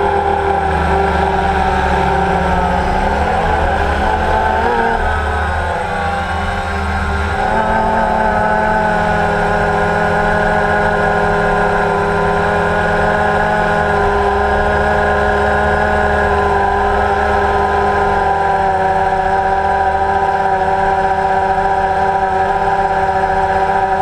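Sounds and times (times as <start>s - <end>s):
drone motors humming: 0.0s - 19.5s.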